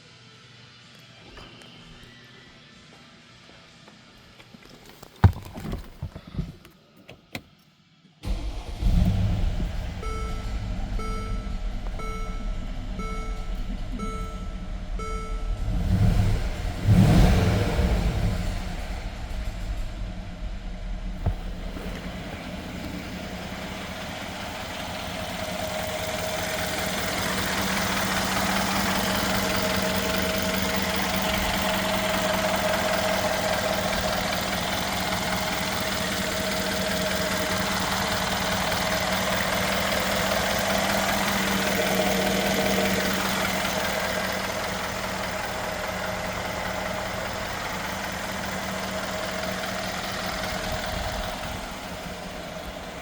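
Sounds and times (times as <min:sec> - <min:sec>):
car engine idling: 0:04.9 - 0:07.4, 0:08.2 - 0:53.0.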